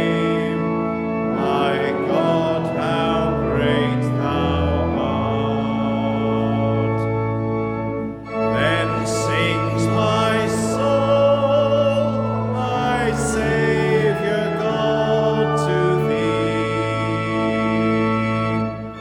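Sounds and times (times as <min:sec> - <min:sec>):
group singing a hymn: 0:00.0 - 0:07.4, 0:08.3 - 0:19.0
organ chords: 0:00.0 - 0:19.0.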